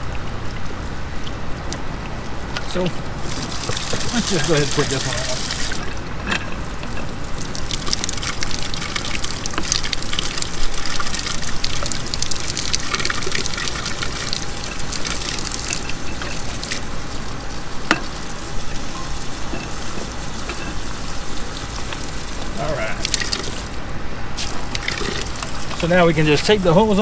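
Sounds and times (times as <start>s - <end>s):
water gushing: 0.0s - 27.0s.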